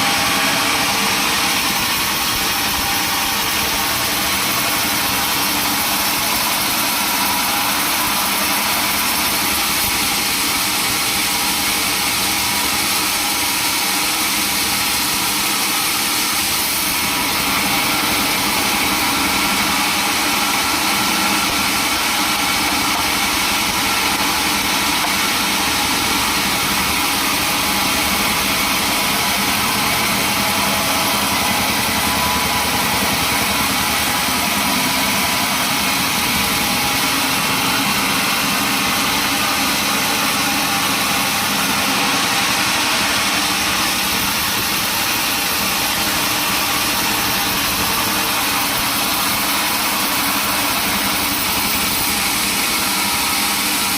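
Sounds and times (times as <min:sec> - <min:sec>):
sawmill machinery drone: 0:00.0 - 0:53.9.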